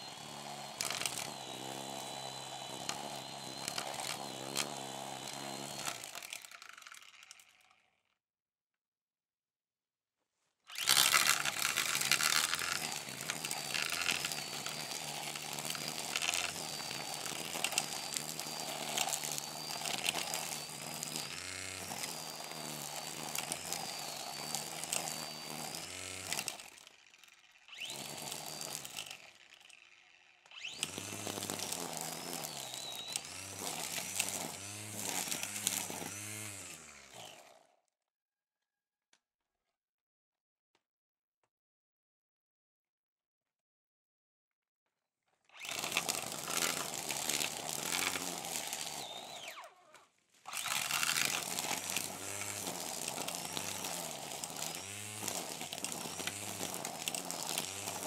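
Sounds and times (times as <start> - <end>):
brush cutter running: 0.0 - 7.9, 10.7 - 37.8, 45.5 - 58.0.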